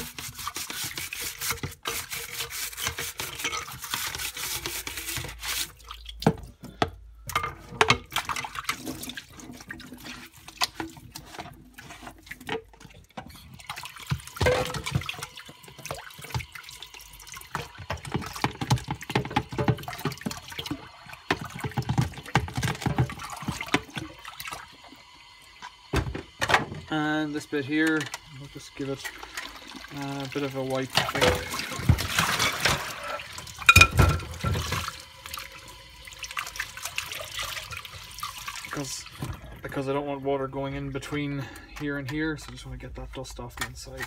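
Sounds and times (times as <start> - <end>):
water splashing and dripping: 0.0 - 6.6, 7.8 - 25.9, 27.7 - 39.9.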